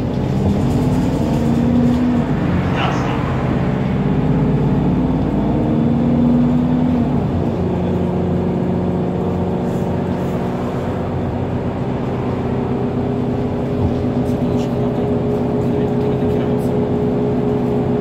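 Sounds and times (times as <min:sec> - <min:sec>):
bus diesel engine: 0:00.0 - 0:18.0.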